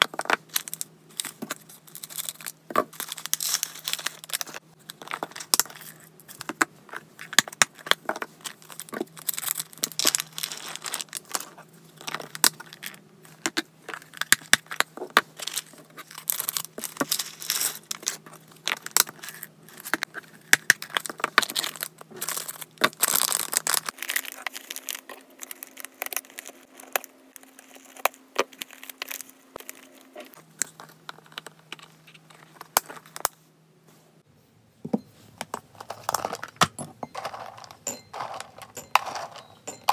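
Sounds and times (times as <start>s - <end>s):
packaging crinkling and rustling: 0.0s - 6.5s, 7.3s - 33.3s.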